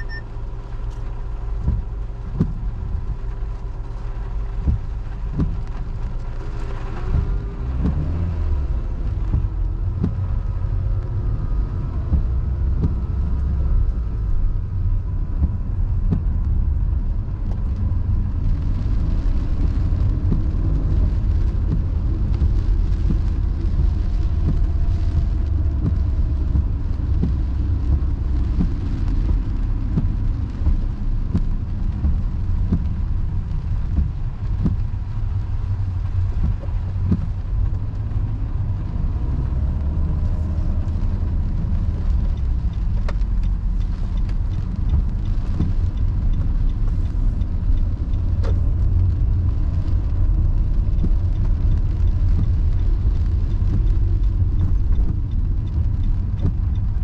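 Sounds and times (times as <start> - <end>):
tyres and engine rumbling: 0.0 - 57.0.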